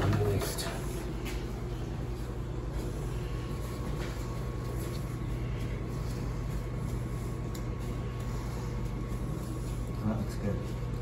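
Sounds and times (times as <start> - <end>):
appliance humming: 0.0 - 11.0
paper towel patting meat: 0.0 - 11.0.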